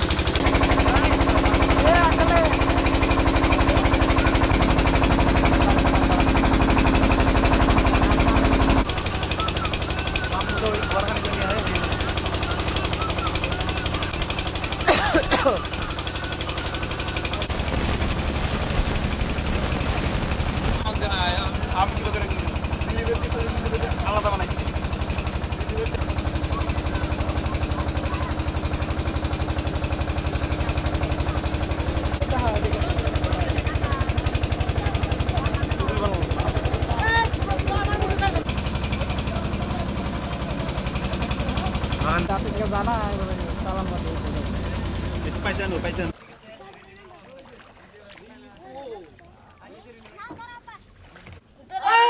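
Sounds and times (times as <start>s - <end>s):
small engine running: 0.0s - 46.2s.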